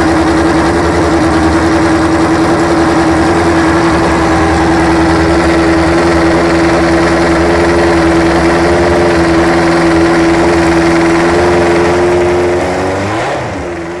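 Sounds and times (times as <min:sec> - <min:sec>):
racing engine running: 0:00.0 - 0:14.0.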